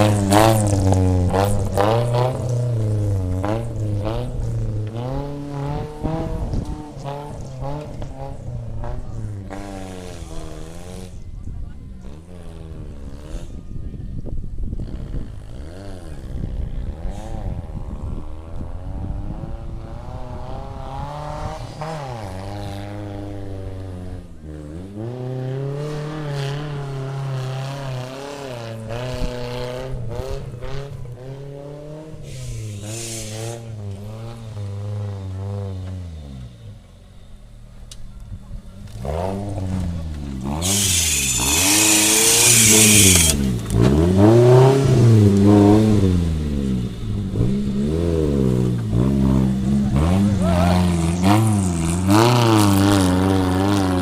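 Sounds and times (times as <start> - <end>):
off-road engine revving under load: 0.0 - 54.0.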